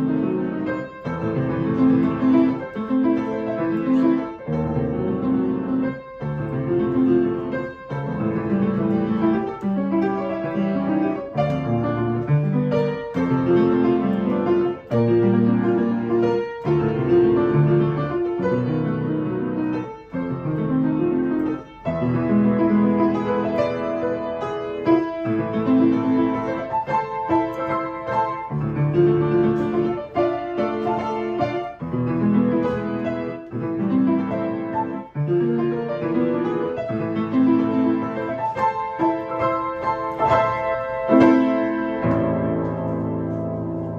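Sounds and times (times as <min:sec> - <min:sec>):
piano piece: 0:00.0 - 0:43.9.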